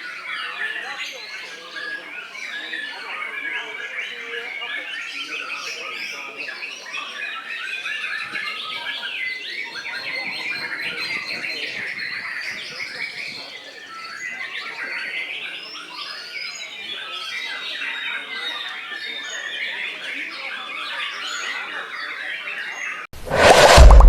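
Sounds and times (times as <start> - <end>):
songbirds chirping and whistling: 0.0 - 23.0.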